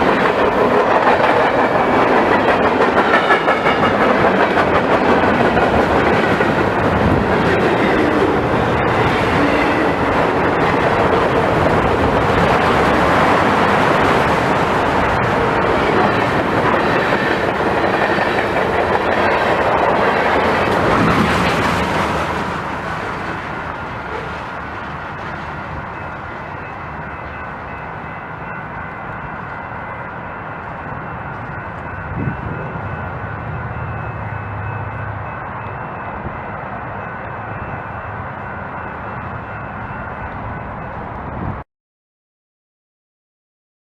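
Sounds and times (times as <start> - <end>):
train wheels clacking on rails: 0.0 - 36.7.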